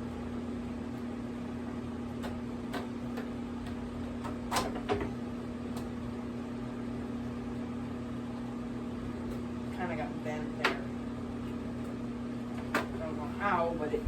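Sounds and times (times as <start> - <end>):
electric fan hum: 0.0 - 14.0.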